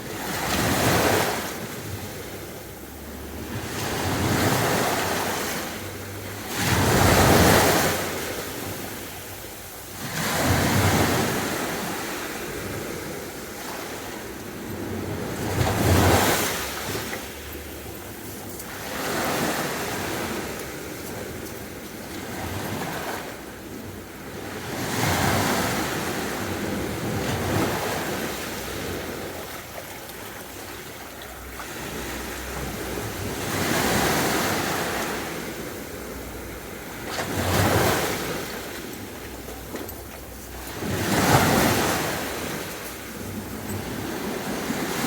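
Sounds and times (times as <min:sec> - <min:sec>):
sea waves crashing: 0:00.0 - 0:45.0.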